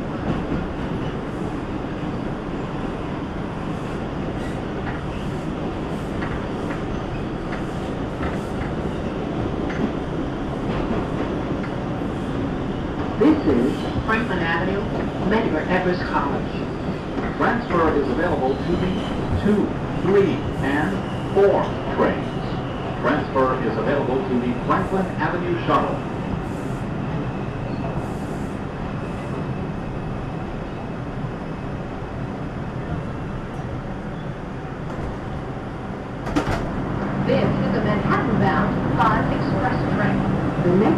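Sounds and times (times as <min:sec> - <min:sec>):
subway train rumbling: 0:00.0 - 0:40.9.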